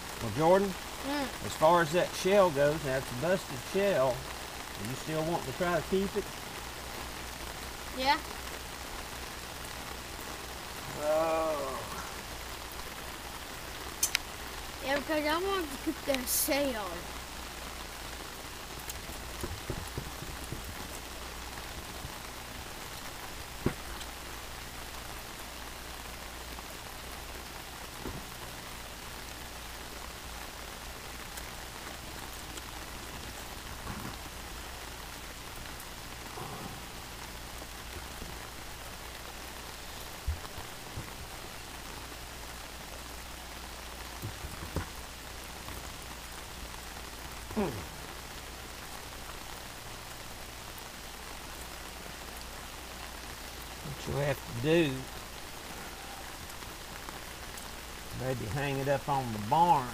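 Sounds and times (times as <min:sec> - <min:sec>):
rain on wet pavement: 0:00.0 - 0:59.9.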